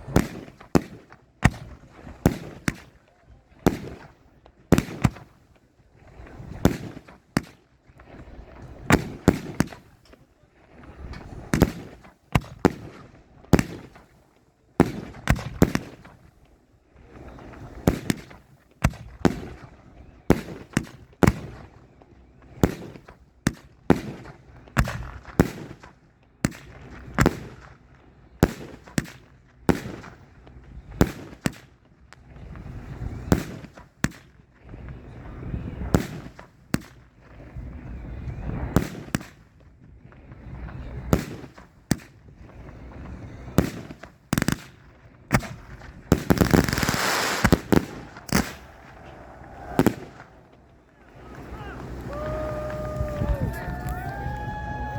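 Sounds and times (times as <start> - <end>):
fireworks bangs with echoing rumble: 0.0 - 10.2, 10.9 - 14.2, 14.8 - 16.4, 17.2 - 21.9, 22.5 - 54.9.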